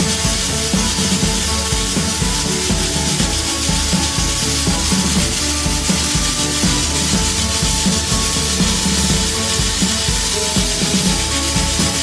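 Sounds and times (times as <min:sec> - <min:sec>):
abrasive grit blasting hiss: 0:00.0 - 0:12.0
music with a steady beat: 0:00.0 - 0:12.0.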